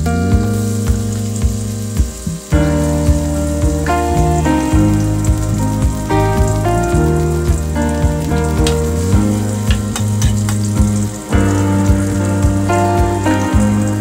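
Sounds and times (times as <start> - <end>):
background music with beat: 0.0 - 14.0
potatoes sizzling in oil: 0.0 - 14.0.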